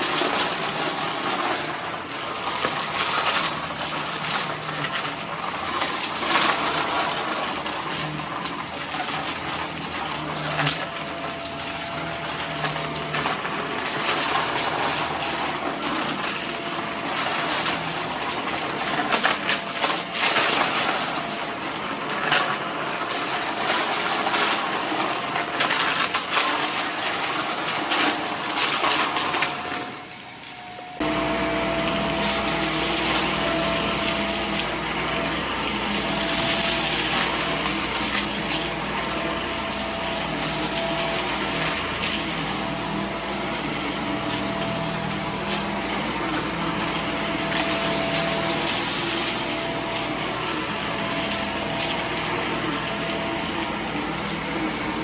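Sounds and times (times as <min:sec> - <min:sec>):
vacuum cleaner picking up debris: 0:00.0 - 0:55.0
vacuum motor humming whine: 0:00.0 - 0:55.0.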